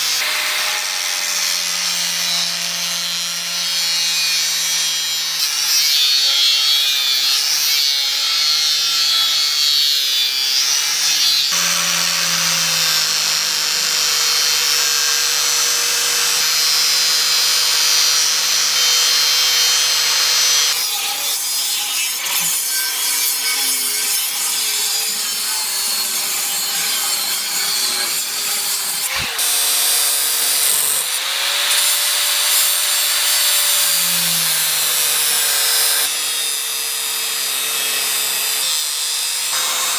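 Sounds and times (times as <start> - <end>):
power tool rasping sawing: 0.0 - 39.9.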